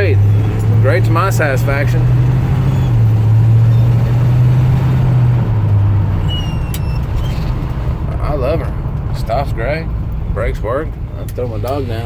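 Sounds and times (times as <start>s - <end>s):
pickup engine running: 0.0s - 12.0s.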